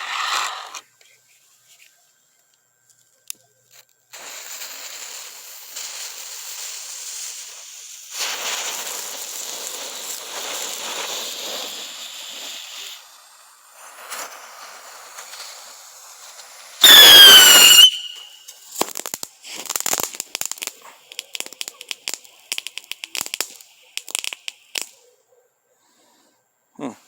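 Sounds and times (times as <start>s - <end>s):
firework spraying hiss: 0.0s - 0.8s, 4.1s - 25.0s.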